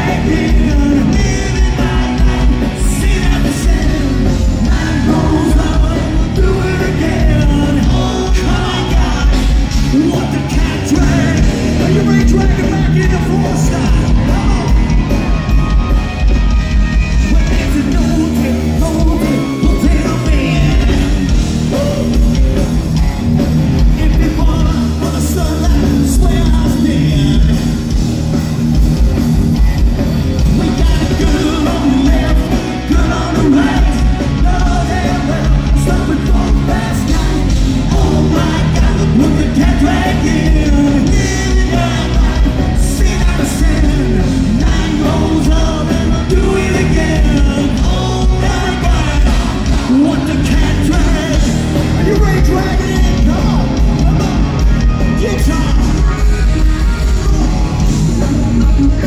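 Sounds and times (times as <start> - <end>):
man singing into microphone: 0.0 - 14.9, 17.1 - 22.3, 24.0 - 27.6, 30.5 - 54.2, 57.2 - 59.0
rock band playing loud: 0.0 - 59.0.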